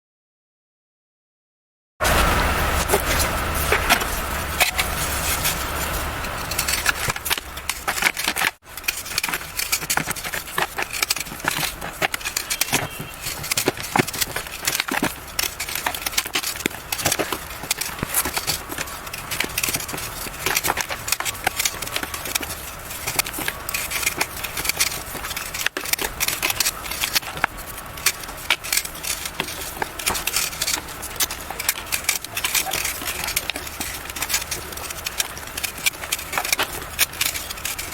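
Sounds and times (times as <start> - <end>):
chalk crunching and crumbling: 2.1 - 37.9.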